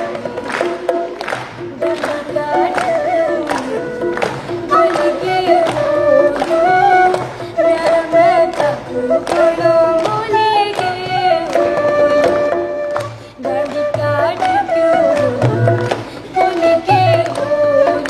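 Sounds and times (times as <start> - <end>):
musical accompaniment: 0.0 - 18.0.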